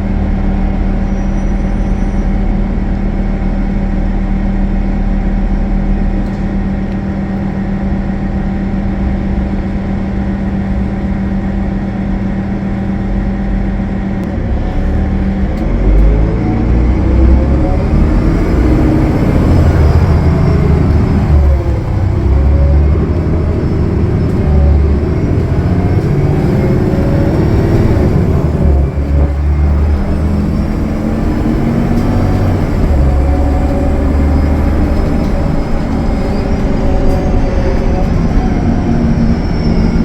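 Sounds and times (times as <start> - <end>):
bus diesel engine running: 0.0 - 40.0
road rumble: 0.0 - 40.0.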